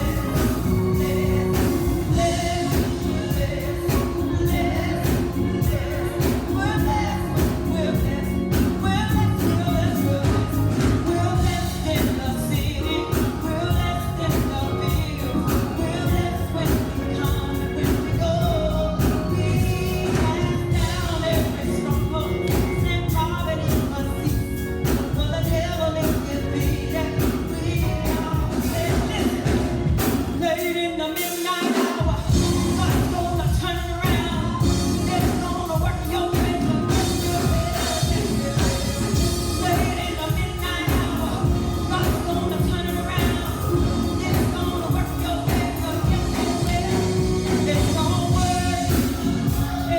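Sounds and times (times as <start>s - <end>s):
gospel singing over band: 0.0s - 49.9s.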